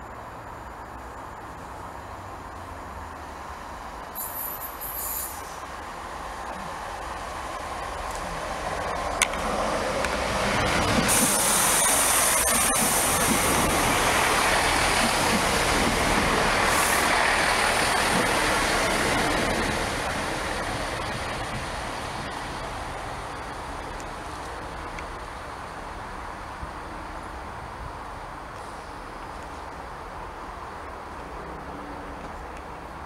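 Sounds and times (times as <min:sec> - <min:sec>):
diesel train engines: 0:00.0 - 0:33.0
wheels hissing on rail: 0:01.4 - 0:31.8.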